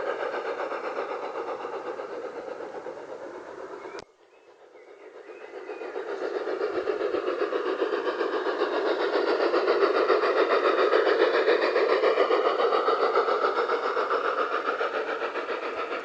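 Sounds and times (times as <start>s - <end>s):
model locomotive running: 0.0s - 16.0s.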